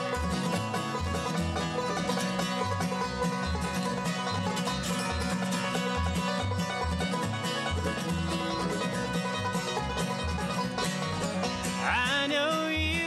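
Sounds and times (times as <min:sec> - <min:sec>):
banjo picking: 0:00.0 - 0:13.0
bass notes: 0:00.0 - 0:13.0
guitar: 0:00.0 - 0:13.0
mandolin: 0:00.0 - 0:13.0.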